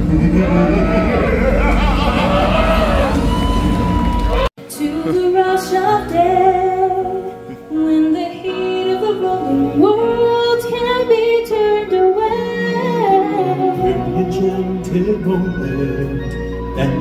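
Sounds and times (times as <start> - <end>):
backing music: 0.0 - 17.0.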